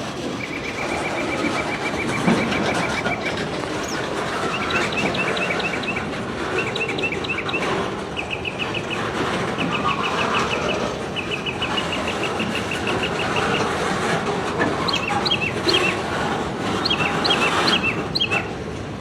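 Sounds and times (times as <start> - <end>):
freight train rolling past: 0.0 - 19.0
bird chirping trills: 0.2 - 13.9, 14.8 - 16.1, 16.8 - 18.4.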